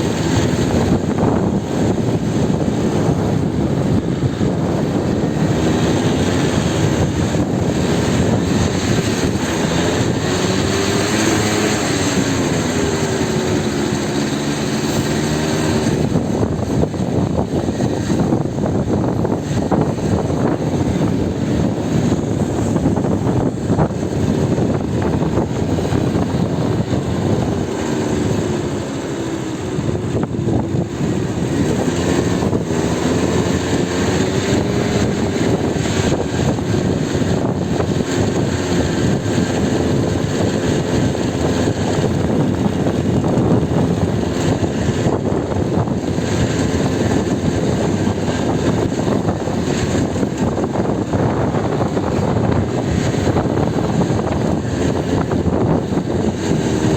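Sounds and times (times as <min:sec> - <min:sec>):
rough sea: 0:00.0 - 0:56.9
wind buffeting microphone: 0:00.0 - 0:56.9.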